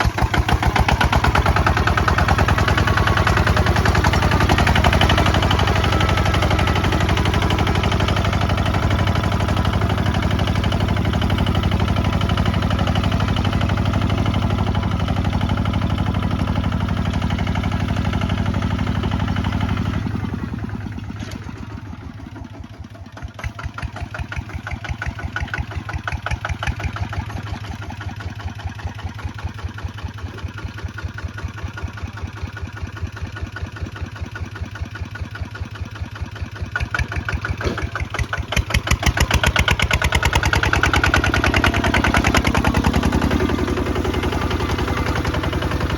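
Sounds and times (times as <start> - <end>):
diesel tractor engine chugging: 0.0 - 45.9.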